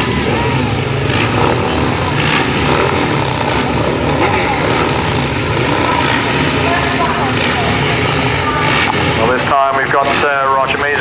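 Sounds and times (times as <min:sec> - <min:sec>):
racing engines running: 0:00.0 - 0:11.0.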